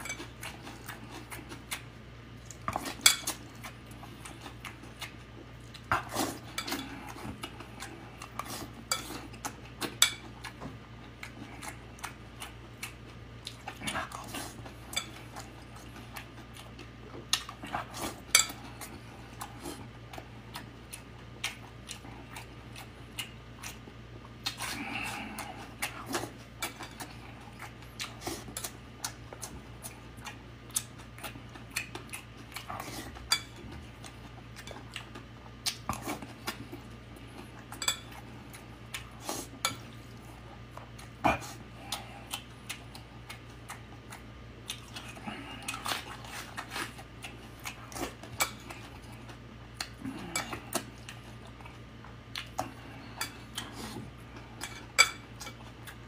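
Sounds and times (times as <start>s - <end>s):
chewing and mouth sounds: 0.0s - 56.0s
steady low hum: 0.0s - 56.0s.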